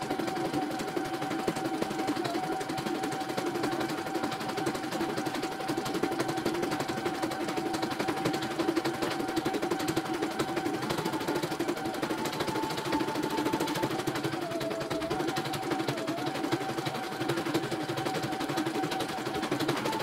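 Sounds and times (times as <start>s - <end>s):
embroidery machine stitching: 0.0s - 20.0s.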